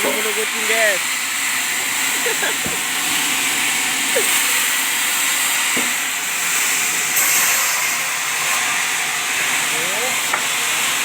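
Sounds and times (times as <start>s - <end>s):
sawmill machinery hissing: 0.0s - 11.0s.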